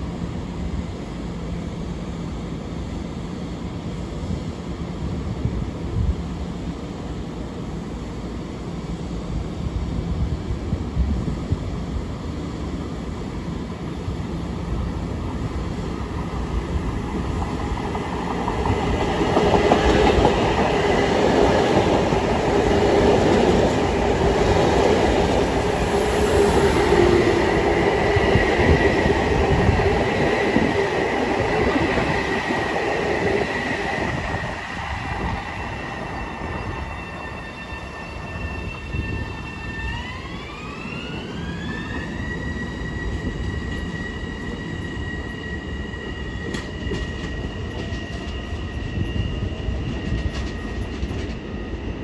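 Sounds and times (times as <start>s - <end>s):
train passing: 8.6s - 52.0s.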